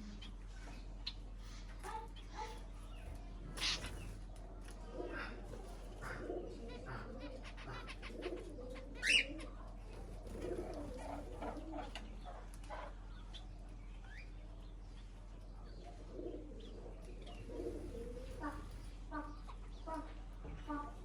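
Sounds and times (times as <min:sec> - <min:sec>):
birds low calls: 0:00.0 - 0:21.0.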